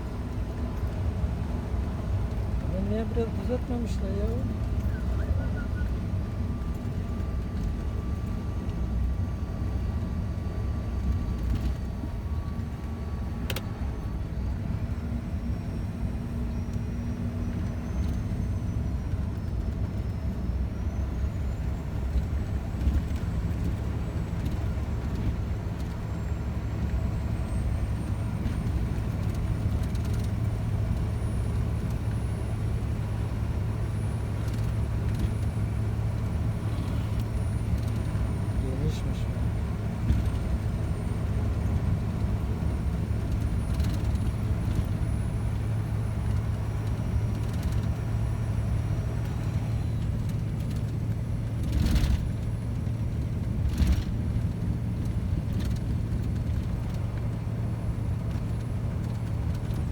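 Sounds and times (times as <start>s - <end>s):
truck engine and rolling noise: 0.0s - 59.9s.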